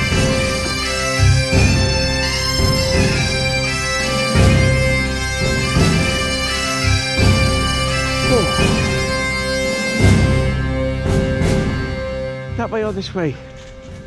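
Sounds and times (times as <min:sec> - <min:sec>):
background music with slow low beat: 0:00.0 - 0:14.0.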